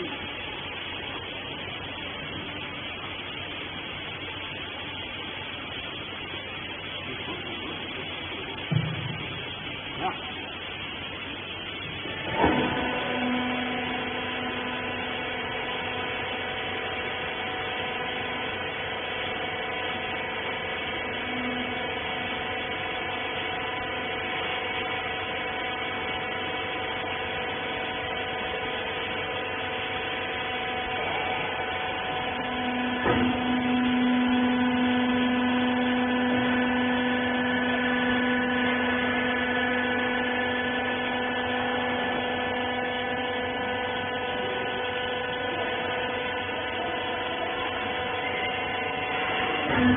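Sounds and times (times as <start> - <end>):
electric motor and pump humming: 0.0 - 49.9.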